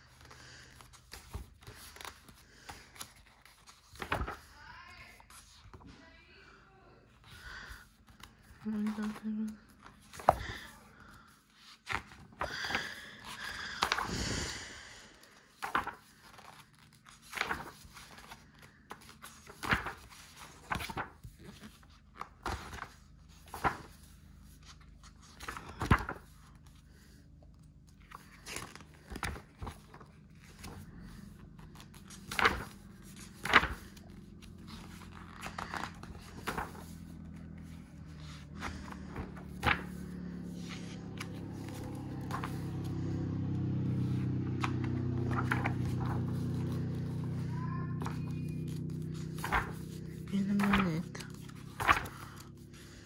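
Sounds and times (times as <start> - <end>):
book pages turning: 0.0 - 6.2, 7.1 - 53.0.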